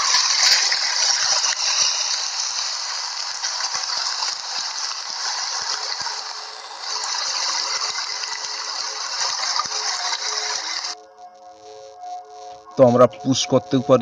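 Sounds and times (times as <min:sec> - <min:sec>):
small irregular clicks and crackles: 0:00.0 - 0:12.8
steady hiss: 0:00.0 - 0:14.0.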